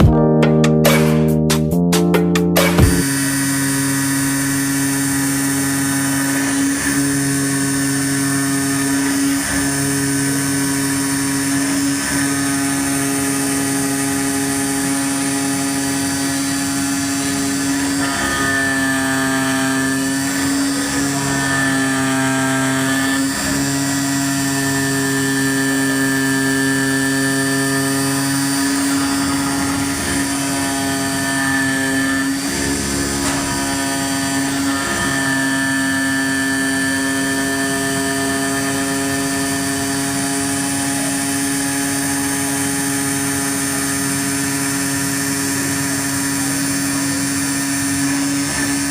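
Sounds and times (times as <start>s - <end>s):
whine changing pitch: 0.0s - 48.9s
cutting machine mechanical hum: 2.6s - 48.9s.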